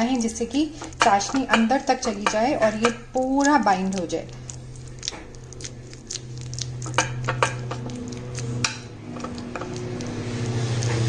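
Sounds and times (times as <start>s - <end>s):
spoon scraping sticky mixture: 0.0s - 11.0s
steady low hum: 0.0s - 11.0s.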